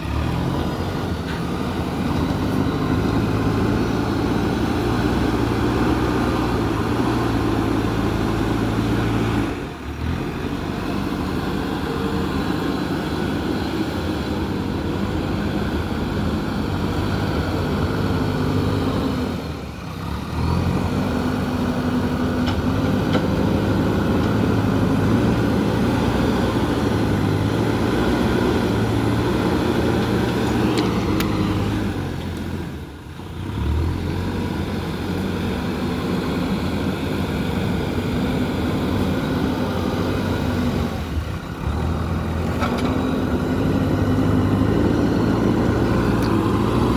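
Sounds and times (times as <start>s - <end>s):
backhoe diesel engine running: 0.0s - 46.9s.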